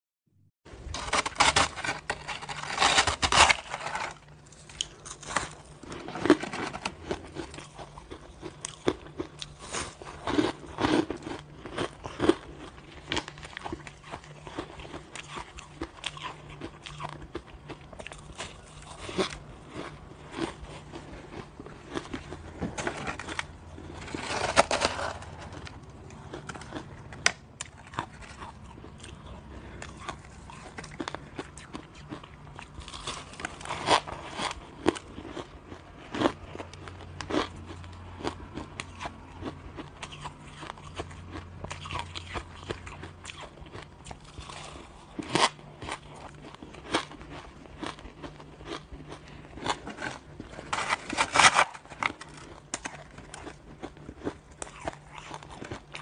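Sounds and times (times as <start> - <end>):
shaved ice crunching when chewed: 0.8 - 56.0.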